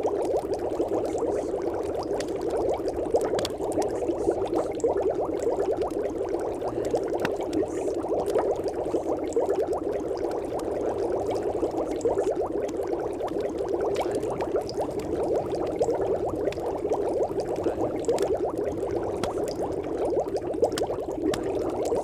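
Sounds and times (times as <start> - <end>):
continuous water bubbling: 0.0 - 22.0.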